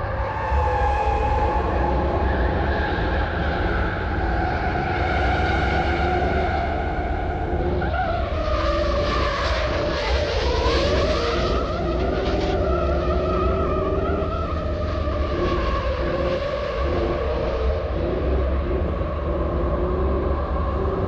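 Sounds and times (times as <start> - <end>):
car engine revving: 0.5 - 21.0.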